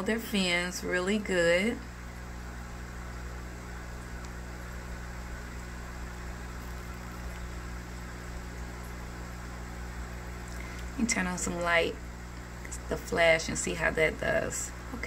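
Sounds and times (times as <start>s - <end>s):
aquarium air pump humming: 0.0s - 15.0s.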